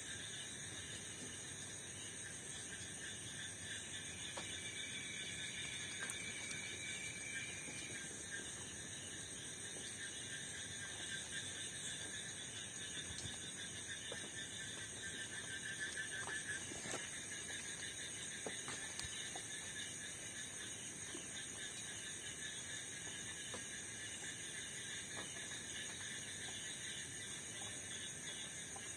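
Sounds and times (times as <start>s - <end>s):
crickets and insects trilling: 0.0s - 28.9s.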